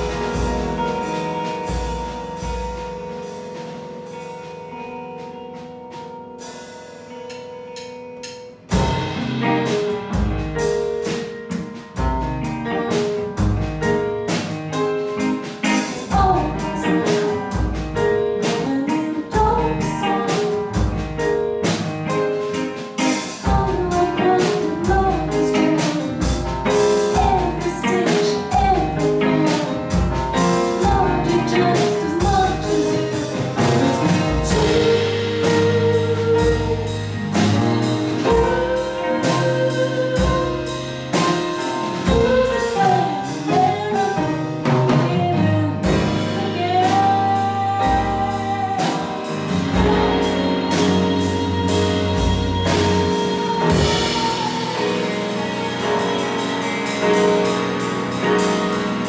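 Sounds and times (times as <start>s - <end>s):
drum kit with cymbals: 0.0s - 59.0s
electric guitar: 0.0s - 59.0s
piano: 0.0s - 59.0s.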